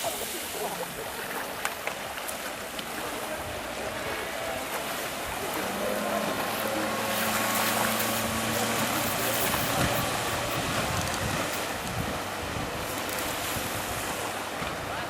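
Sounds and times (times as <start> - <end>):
sea water rushing: 0.0 - 15.0
wind: 0.0 - 15.0
motorboat engine humming: 0.4 - 15.0.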